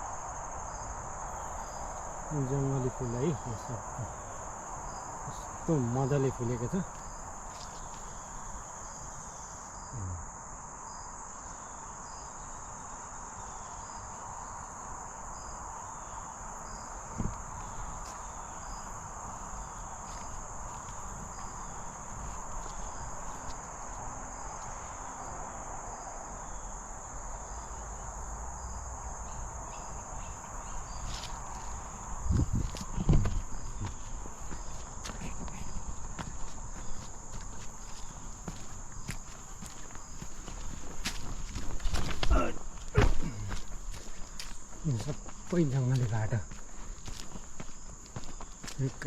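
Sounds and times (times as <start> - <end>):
insects trilling: 0.0 - 49.0.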